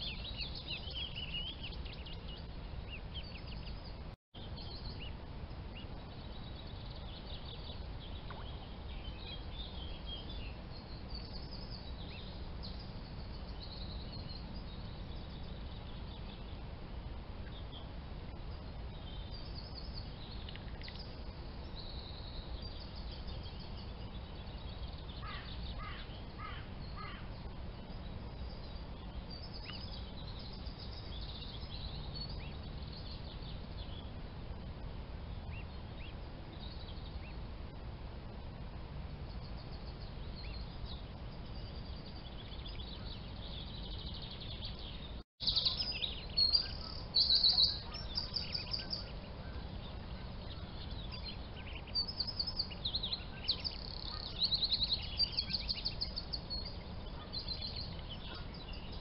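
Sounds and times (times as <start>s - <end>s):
birds chirping: 0.0s - 59.0s
steady low noise: 0.0s - 59.0s.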